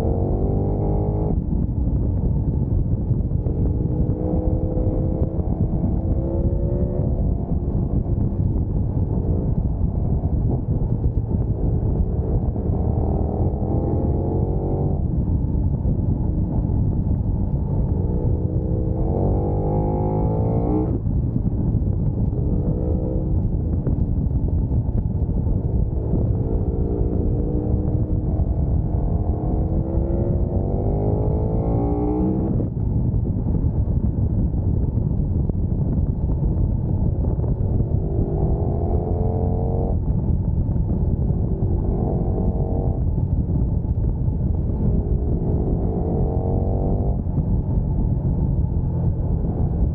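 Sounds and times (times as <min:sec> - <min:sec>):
motorcycle engine revving: 0:00.0 - 0:01.4, 0:03.3 - 0:15.2, 0:17.2 - 0:21.2, 0:22.0 - 0:32.8, 0:37.2 - 0:40.1, 0:40.8 - 0:49.9
wind rumble on microphone: 0:00.0 - 0:49.9.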